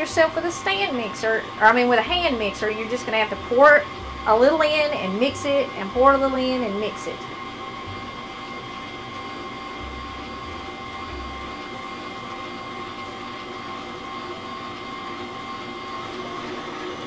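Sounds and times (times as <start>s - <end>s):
stand mixer motor whining: 0.0s - 17.0s.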